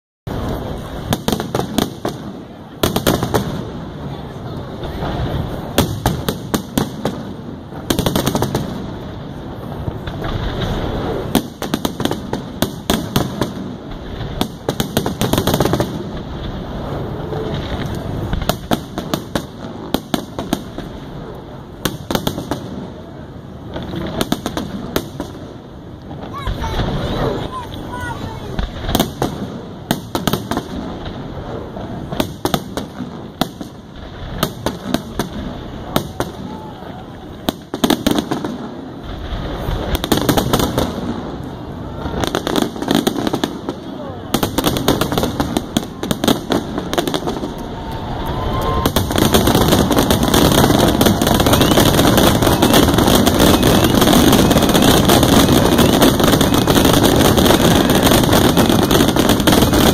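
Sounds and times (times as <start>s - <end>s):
fireworks bursting: 0.3s - 59.9s
rumble of fireworks reports: 0.3s - 59.9s.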